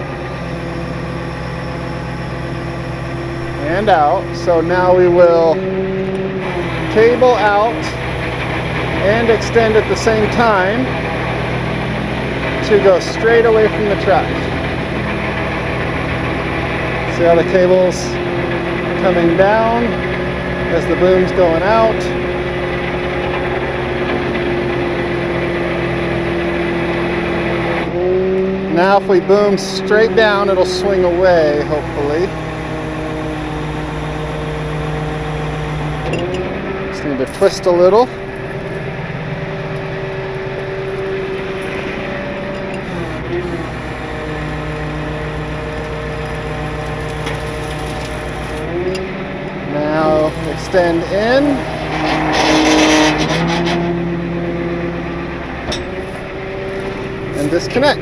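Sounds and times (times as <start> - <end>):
hydraulic whine: 0.0 - 58.0
truck engine drone: 0.0 - 58.0.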